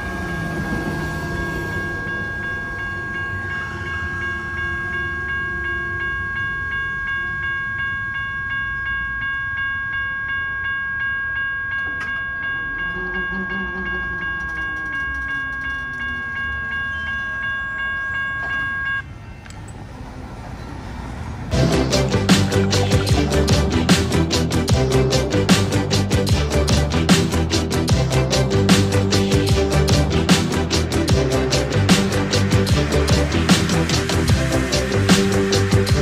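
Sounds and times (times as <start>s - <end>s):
passenger train rumbling: 0.0s - 36.0s
railroad crossing bell ringing: 0.0s - 36.0s.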